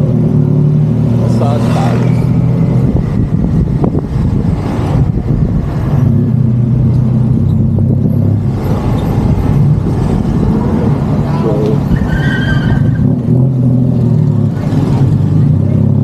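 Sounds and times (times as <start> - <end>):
road and traffic noise: 0.0 - 16.0.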